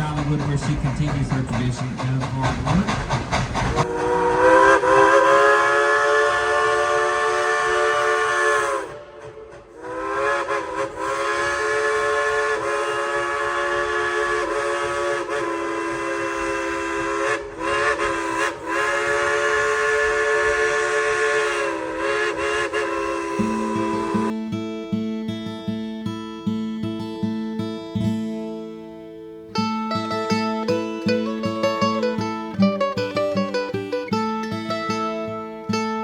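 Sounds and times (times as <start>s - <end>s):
steam locomotive chime whistle: 3.8s - 36.0s.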